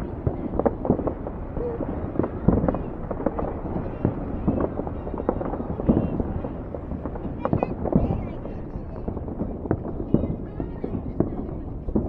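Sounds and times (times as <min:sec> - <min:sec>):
continuous rumble: 0:00.0 - 0:12.0
fireworks bangs and crackling: 0:00.0 - 0:12.0.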